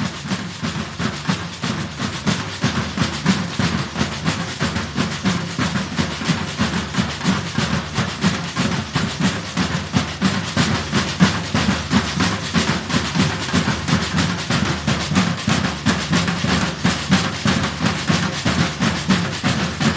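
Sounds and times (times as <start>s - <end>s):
drum group playing: 0.0s - 19.9s.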